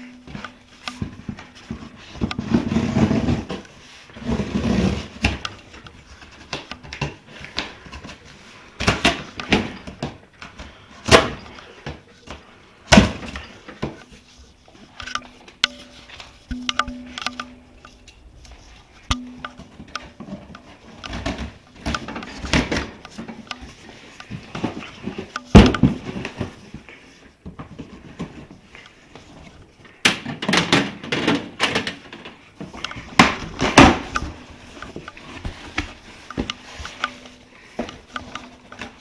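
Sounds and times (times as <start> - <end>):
clicks and scraping: 0.0 - 39.0.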